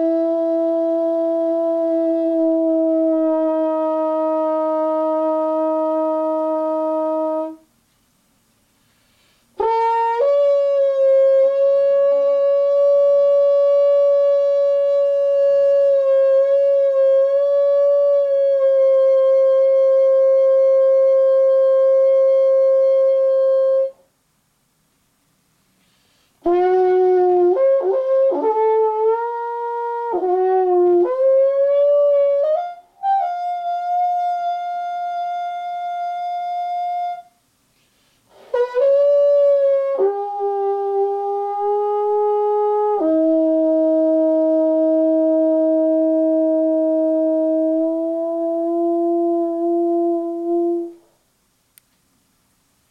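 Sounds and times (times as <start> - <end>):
solo trombone: 0.0 - 7.8, 9.5 - 24.1, 26.1 - 37.5, 38.2 - 51.3.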